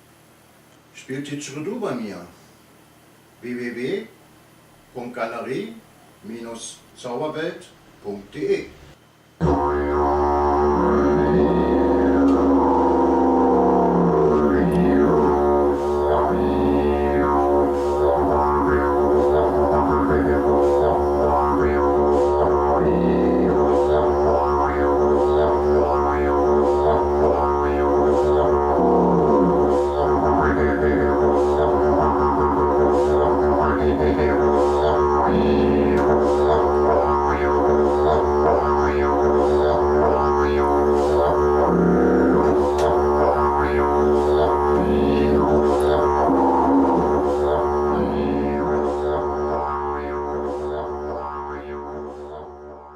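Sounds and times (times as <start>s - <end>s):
didgeridoo drone: 9.4s - 52.9s.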